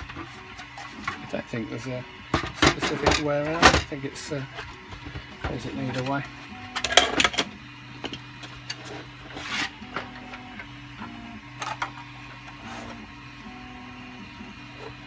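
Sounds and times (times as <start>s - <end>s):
stepper motors humming: 0.0s - 15.0s.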